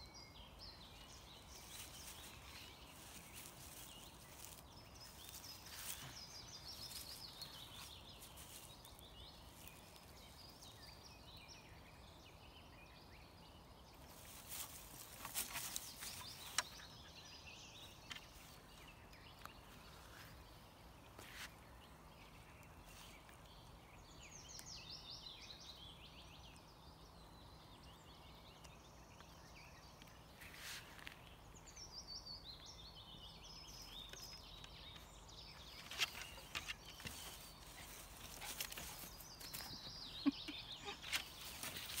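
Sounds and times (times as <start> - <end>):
songbird singing: 0.0 - 42.0.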